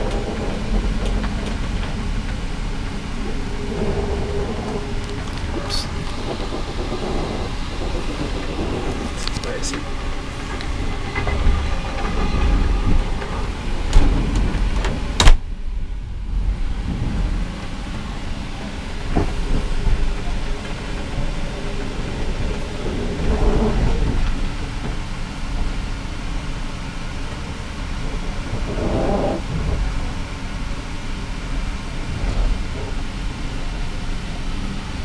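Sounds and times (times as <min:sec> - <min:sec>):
train carriage rumble and rattle: 0:00.0 - 0:35.0.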